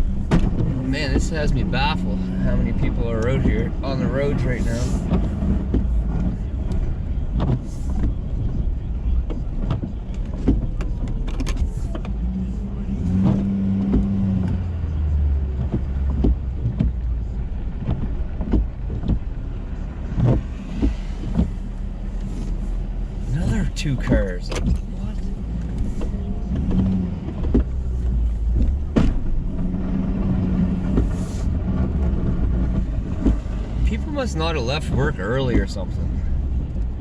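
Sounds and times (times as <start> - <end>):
engine and road drone: 0.0 - 37.0.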